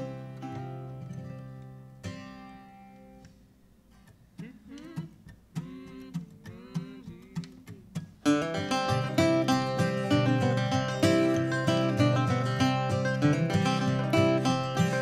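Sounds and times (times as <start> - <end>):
acoustic guitar chord: 0.0 - 15.0
acoustic guitars strumming: 0.0 - 15.0
guitar picking single notes: 0.0 - 15.0.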